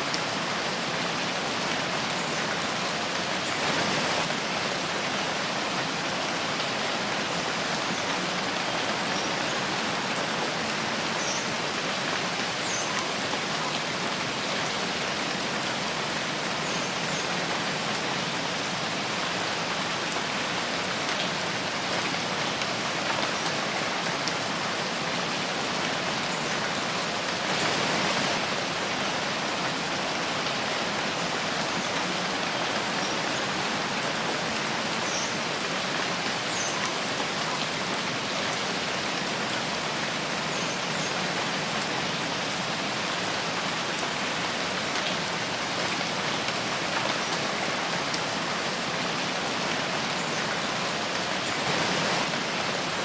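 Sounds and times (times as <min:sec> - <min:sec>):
rain falling in a forest: 0:00.0 - 0:53.0.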